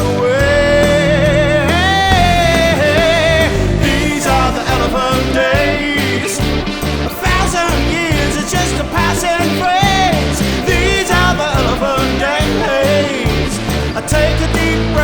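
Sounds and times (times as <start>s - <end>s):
indie rock band playing: 0.0s - 15.0s.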